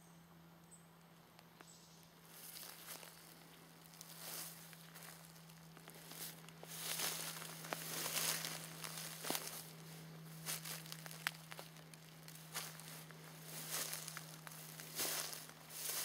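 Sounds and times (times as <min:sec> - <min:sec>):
steady low hum: 0:00.0 - 0:16.0
footsteps through grass and leaves: 0:02.2 - 0:16.0.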